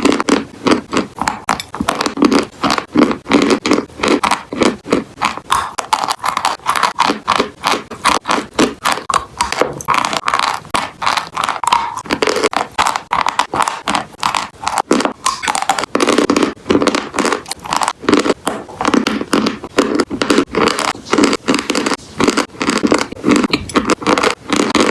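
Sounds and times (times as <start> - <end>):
crunching of dry chalk and clay: 0.0 - 24.9.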